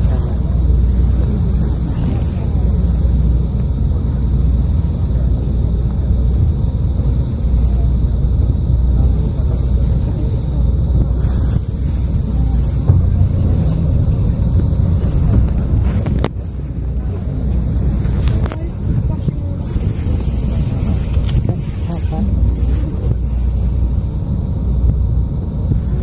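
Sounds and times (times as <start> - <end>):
boat engine running: 0.0 - 26.0
wind buffeting microphone: 0.0 - 26.0.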